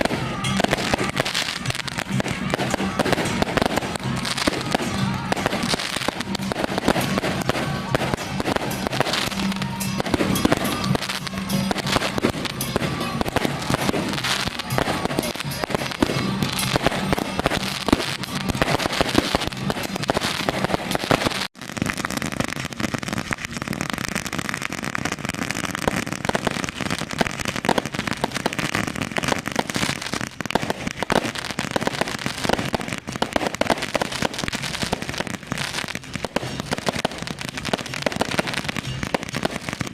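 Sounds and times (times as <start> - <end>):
music: 0.0 - 21.5, 24.8 - 39.9
firecrackers crackling: 0.0 - 39.9.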